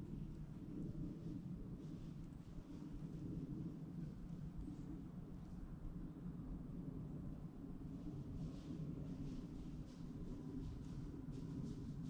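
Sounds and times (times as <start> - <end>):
faint wind rumble on microphone: 0.0 - 12.0.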